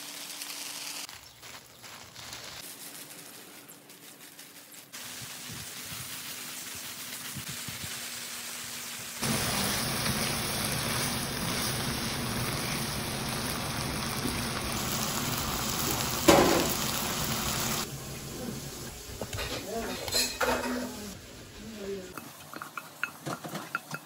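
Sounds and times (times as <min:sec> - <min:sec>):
stir-fry sizzling in a wok: 0:00.0 - 0:03.1, 0:04.8 - 0:24.0
garden hose spraying water: 0:00.0 - 0:24.0.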